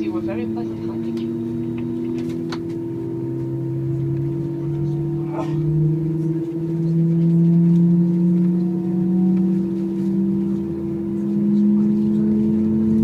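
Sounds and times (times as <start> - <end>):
jet engines humming: 0.0 - 13.0.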